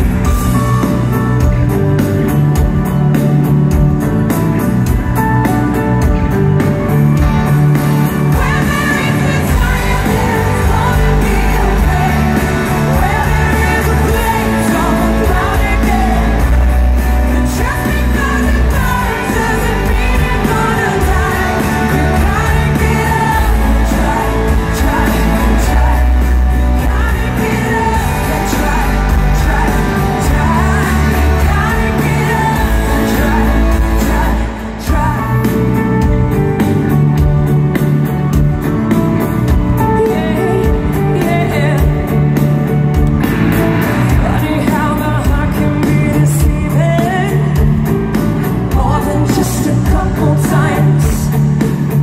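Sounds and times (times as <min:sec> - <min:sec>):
live pop-rock band playing: 0:00.0 - 0:52.0
woman singing lead: 0:04.8 - 0:52.0.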